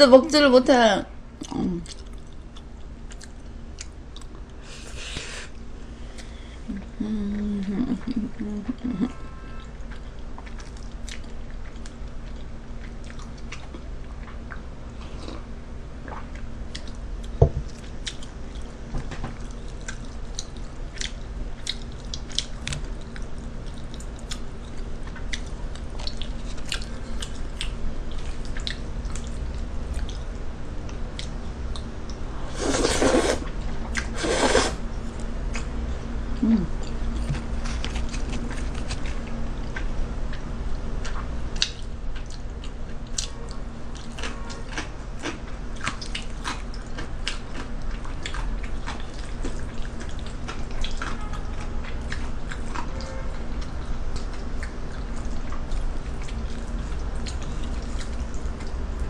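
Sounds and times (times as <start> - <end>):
low steady hum: 0.0 - 59.0
noisy eating from a bowl: 1.4 - 59.0
person chewing food: 1.4 - 59.0.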